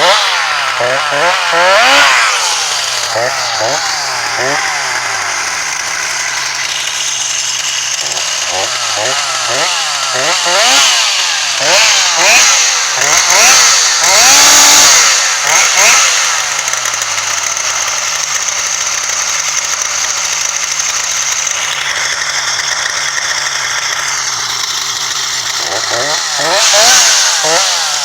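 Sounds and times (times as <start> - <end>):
chainsaw engine revving and idling: 0.0 - 28.0.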